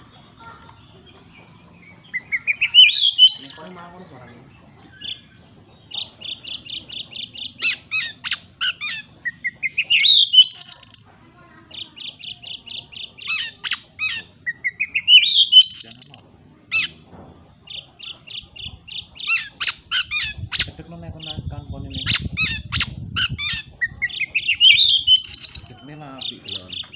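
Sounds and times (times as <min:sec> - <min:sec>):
songbird singing: 0:00.0 - 0:26.9.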